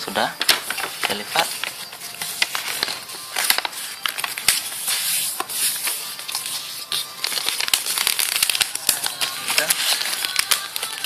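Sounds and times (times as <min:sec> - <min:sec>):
stiff paper crinkling: 0:00.2 - 0:11.0.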